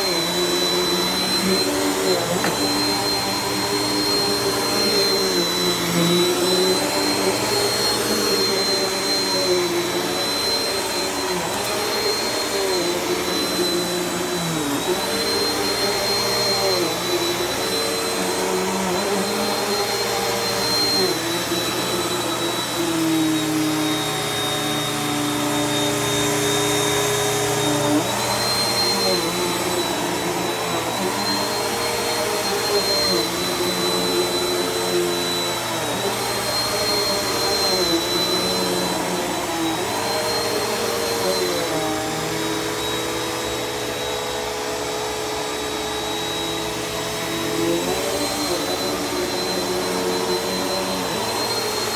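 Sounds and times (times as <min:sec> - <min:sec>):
upright vacuum running on rug: 0:00.0 - 0:51.9.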